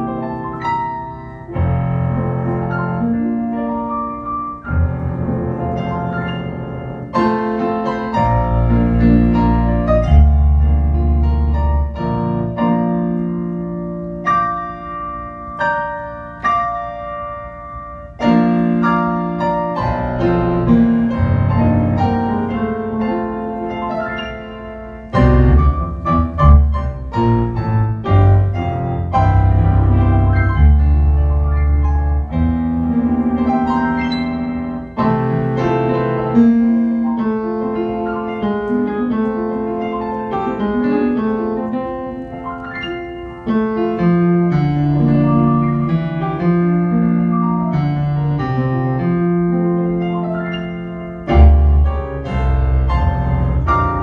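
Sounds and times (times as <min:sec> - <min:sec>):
piano chords with bass line: 0:00.0 - 0:54.0.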